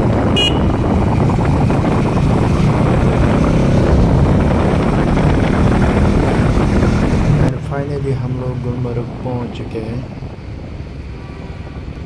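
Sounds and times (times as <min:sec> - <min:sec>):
motorcycle engine drone: 0:00.0 - 0:12.0
wind rush over microphone: 0:00.0 - 0:12.0.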